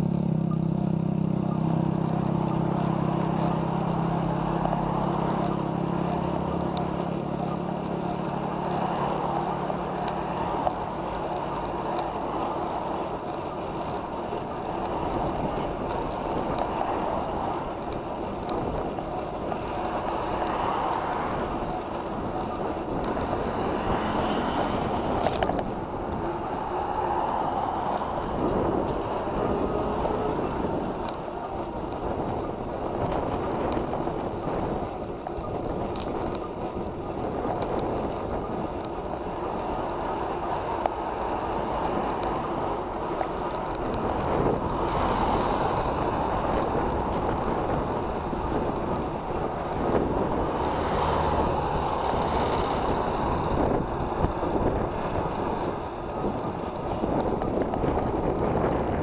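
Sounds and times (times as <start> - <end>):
wind rushing on microphone: 1.9 - 59.0.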